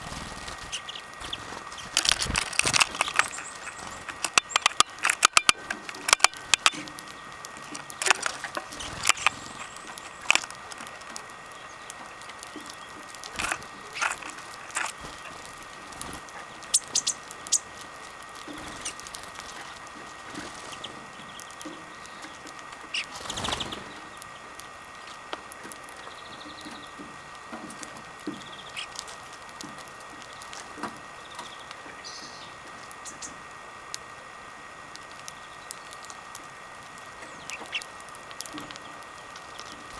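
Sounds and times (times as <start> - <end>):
birds cracking seeds: 0.0 - 39.9
rustle: 0.0 - 39.9.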